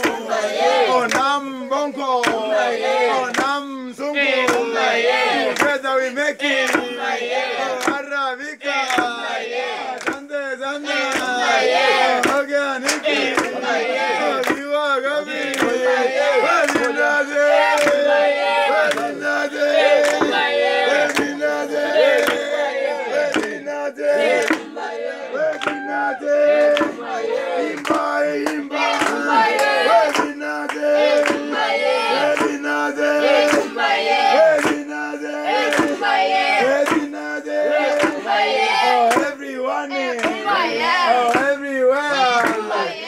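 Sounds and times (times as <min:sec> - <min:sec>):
group singing a chant: 0:00.0 - 0:43.0
rhythmic pounding beat: 0:00.0 - 0:43.0.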